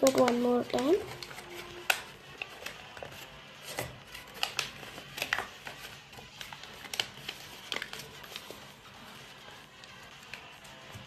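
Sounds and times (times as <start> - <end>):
paper being folded and creased: 0.0 - 11.0.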